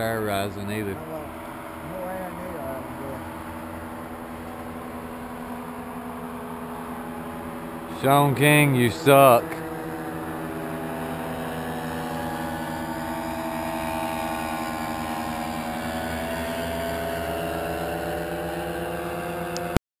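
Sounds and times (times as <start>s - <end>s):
paramotor engine droning: 0.0s - 19.8s.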